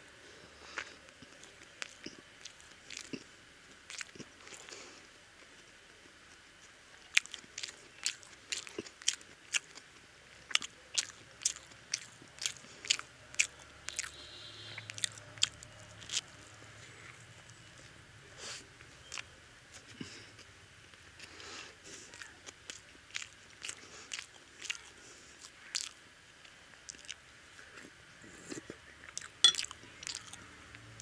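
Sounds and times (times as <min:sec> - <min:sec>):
crunchy toast chewing: 0:00.6 - 0:30.8.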